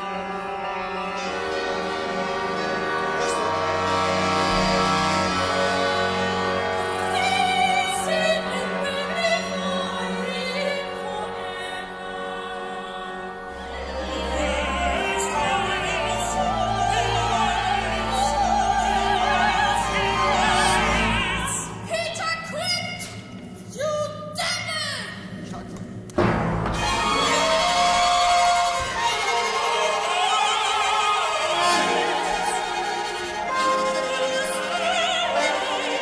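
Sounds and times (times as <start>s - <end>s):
operatic voices singing: 1.8s - 22.0s, 26.8s - 36.0s.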